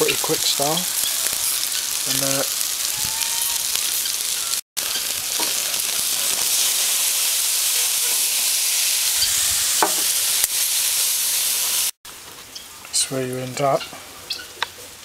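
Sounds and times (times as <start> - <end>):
steaks sizzling on a grill: 0.0 - 13.8.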